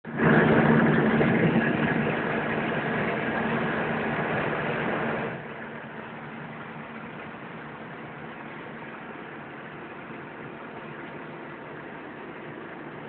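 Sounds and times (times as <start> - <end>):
car engine running: 0.0 - 13.0
road and wind noise: 0.0 - 13.0.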